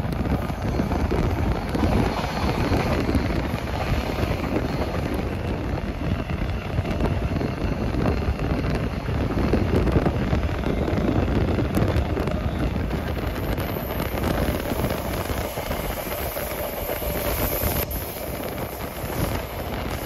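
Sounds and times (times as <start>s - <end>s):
rushing noise: 0.0s - 20.0s
train wheels rumbling on rails: 0.0s - 20.0s.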